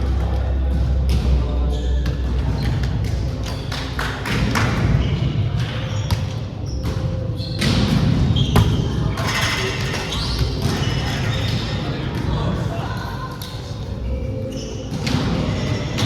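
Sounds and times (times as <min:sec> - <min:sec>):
volleyballs hit and bouncing: 0:00.0 - 0:12.4, 0:14.8 - 0:16.0.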